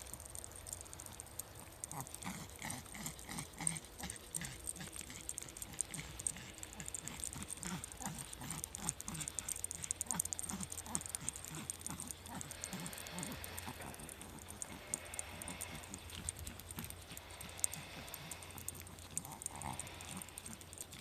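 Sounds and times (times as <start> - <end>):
dog panting: 1.1 - 21.0.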